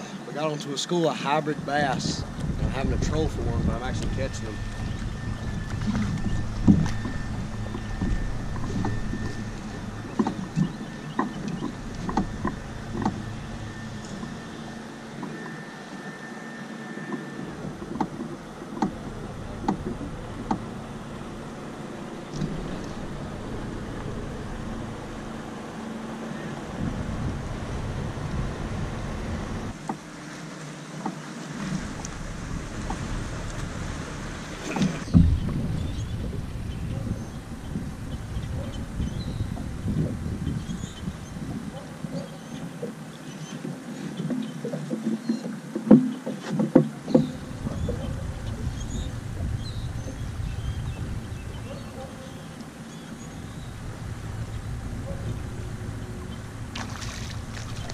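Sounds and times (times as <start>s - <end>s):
wind rumbling on microphone: 1.3s - 30.2s, 31.5s - 57.9s
water lapping at boat hull: 1.3s - 57.9s.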